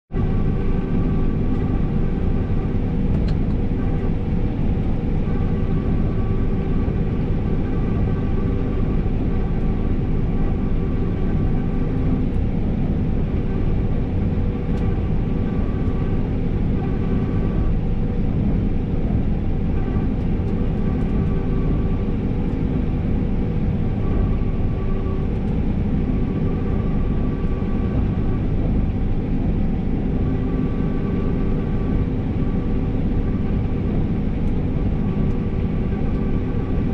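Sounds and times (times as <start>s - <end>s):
combine harvester low rumble: 0.1s - 36.9s
faint whine: 0.1s - 36.9s.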